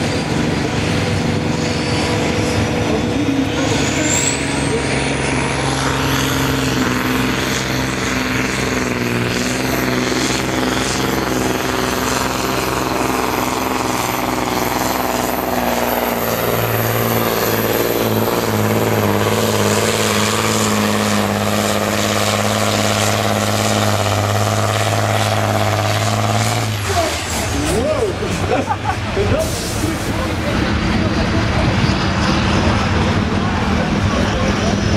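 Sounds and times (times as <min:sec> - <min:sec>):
diesel truck engine under load: 0:00.0 - 0:34.9.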